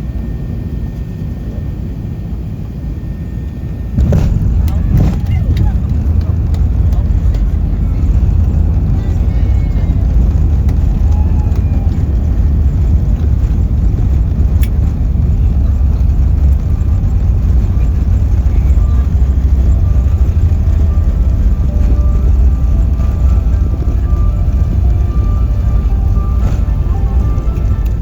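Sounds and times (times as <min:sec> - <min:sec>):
vehicle rumble from inside: 0:03.4 - 0:28.0.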